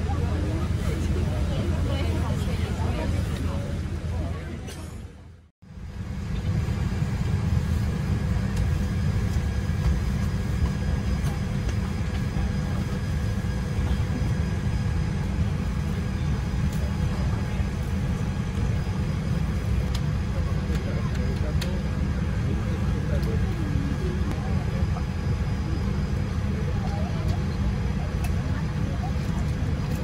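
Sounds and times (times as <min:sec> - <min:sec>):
airliner cabin rumble: 0:00.0 - 0:30.0.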